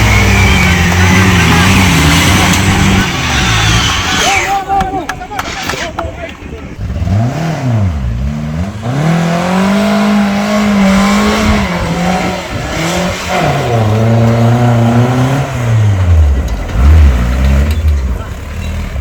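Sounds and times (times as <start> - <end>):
engine revving hard: 0.0 - 4.4, 6.8 - 17.9.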